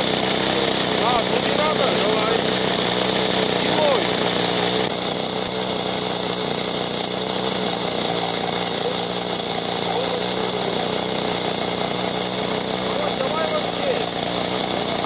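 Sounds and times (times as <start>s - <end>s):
chainsaw cutting ice: 0.0s - 15.0s.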